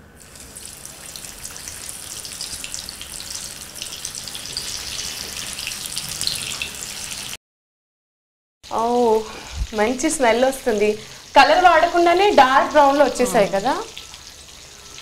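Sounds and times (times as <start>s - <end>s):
chicken frying in hot oil: 0.0s - 7.4s, 8.7s - 15.0s.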